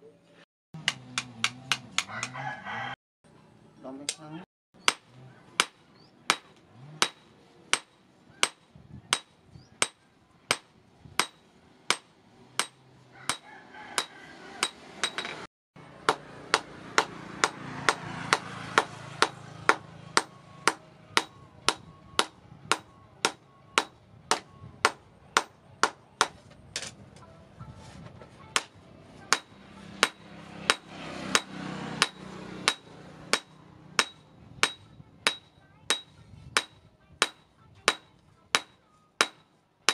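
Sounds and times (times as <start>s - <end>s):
hammer striking metal on anvil: 0.8s - 2.4s, 4.8s - 26.9s, 28.6s - 39.9s.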